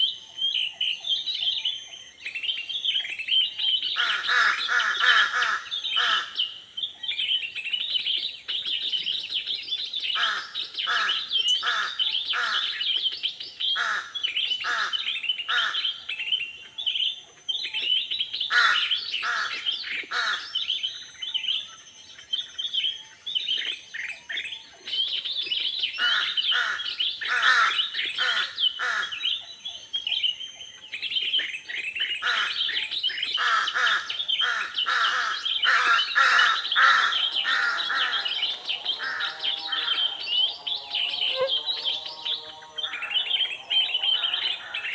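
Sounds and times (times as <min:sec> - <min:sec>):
birds chirping and calling: 0:00.0 - 0:44.9.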